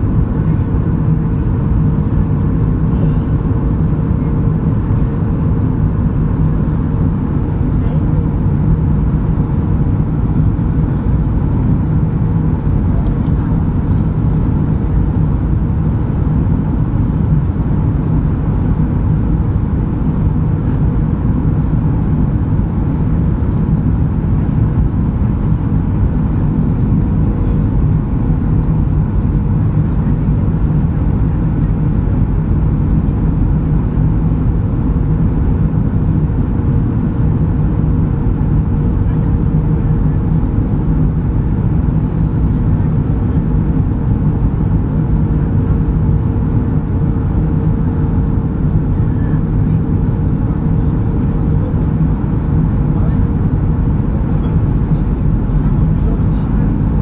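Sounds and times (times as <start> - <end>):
airplane cabin rumble: 0.0 - 57.0
faint steady hum: 0.0 - 57.0.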